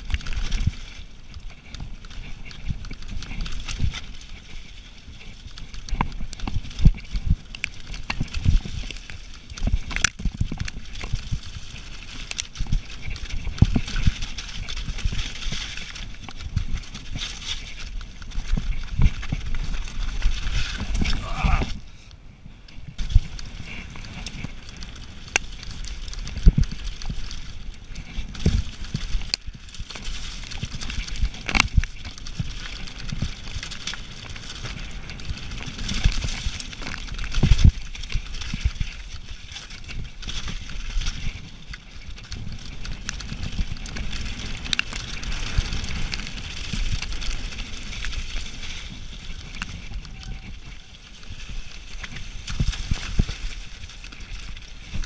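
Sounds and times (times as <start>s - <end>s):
bike knocking and rattling: 0.0s - 55.0s
bike tyres crunching gravel: 0.0s - 55.0s.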